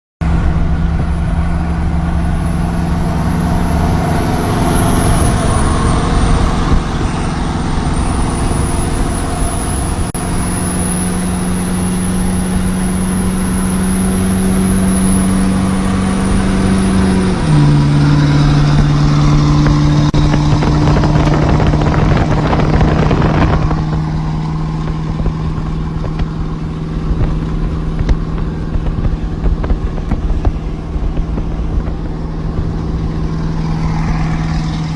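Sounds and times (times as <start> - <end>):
rushing noise: 0.2 - 34.9
truck engine running: 0.2 - 34.9.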